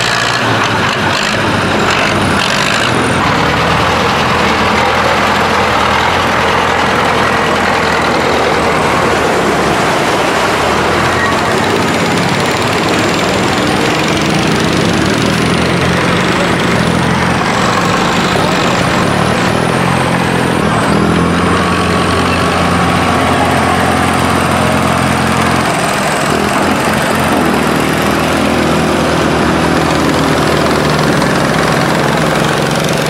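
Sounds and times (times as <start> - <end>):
tractor engine running loudly: 0.0 - 33.0.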